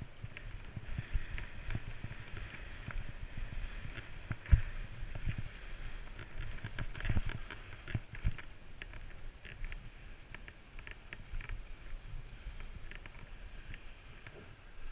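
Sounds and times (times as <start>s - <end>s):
skis hissing through powder snow: 0.0s - 14.9s
wind rumble on microphone: 0.0s - 14.9s.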